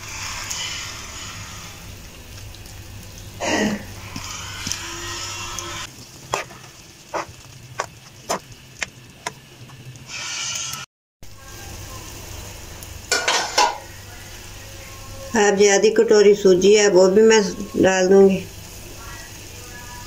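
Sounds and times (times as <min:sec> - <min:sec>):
water boiling and hissing in a pan: 0:00.0 - 0:20.0.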